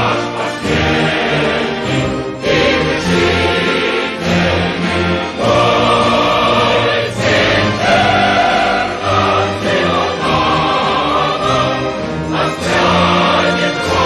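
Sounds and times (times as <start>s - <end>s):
choir singing: 0.0s - 14.0s
orchestral accompaniment: 0.0s - 14.0s.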